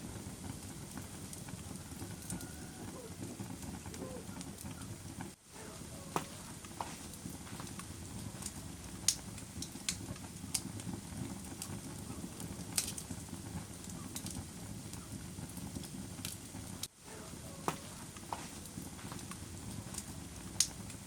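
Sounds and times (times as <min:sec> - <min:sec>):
fire flames rumbling: 0:00.0 - 0:21.0
fire popping and snapping: 0:00.0 - 0:21.0.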